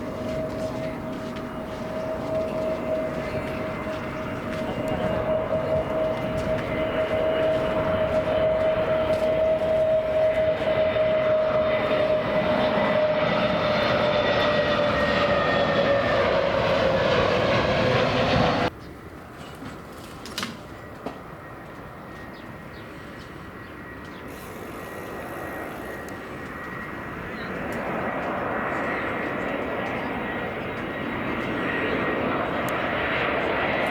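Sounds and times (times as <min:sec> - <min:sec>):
faint aircraft noise: 0:00.0 - 0:33.9
jet airliner engine whine: 0:00.0 - 0:33.9.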